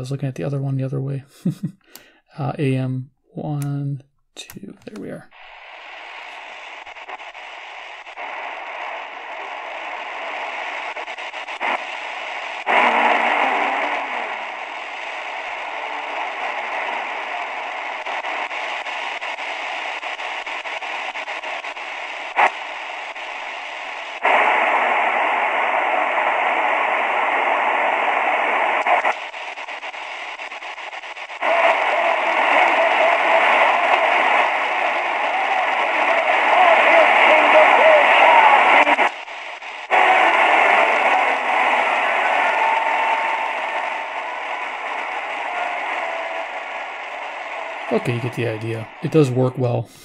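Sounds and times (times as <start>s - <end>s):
radio static while tuning: 0.0s - 50.0s.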